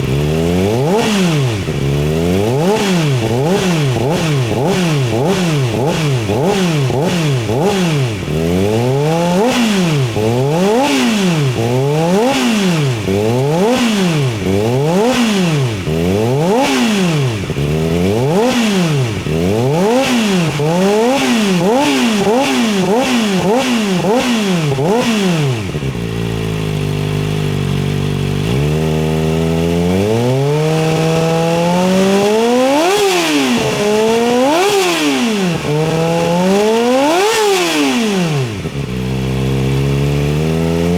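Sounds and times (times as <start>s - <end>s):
motorcycle engine idling: 0.0s - 40.9s
motorcycle engine revving: 0.0s - 40.9s.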